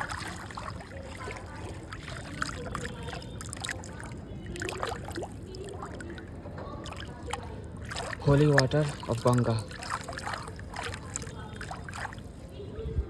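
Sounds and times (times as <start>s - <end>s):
river water lapping: 0.0s - 12.6s
small water splashes: 0.0s - 12.6s
faint voices: 0.0s - 13.0s.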